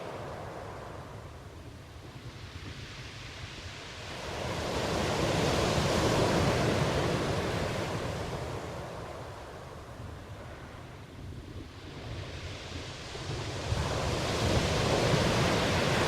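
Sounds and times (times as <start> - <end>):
low rumble of sea: 0.0 - 16.0
ocean wave surging and washing back: 0.0 - 16.0.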